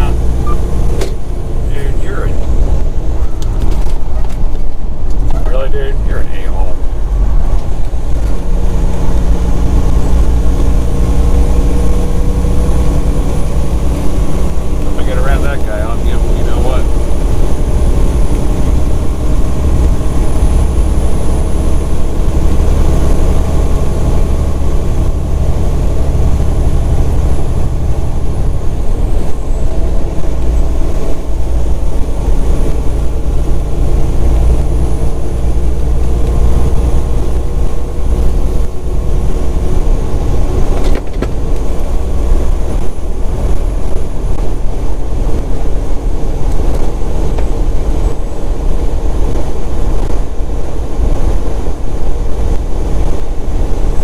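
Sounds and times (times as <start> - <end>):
road noise: 0.0 - 54.0
truck diesel engine rumble: 0.0 - 54.0.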